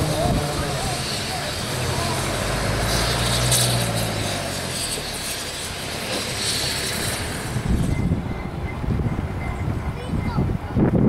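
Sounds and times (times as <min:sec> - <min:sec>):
heavy vehicle humming: 0:00.0 - 0:11.0.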